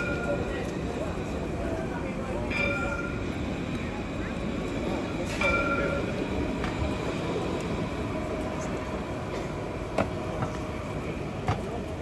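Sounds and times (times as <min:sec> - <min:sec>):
street hubbub: 0:00.0 - 0:12.0
tram rolling on track: 0:00.0 - 0:12.0.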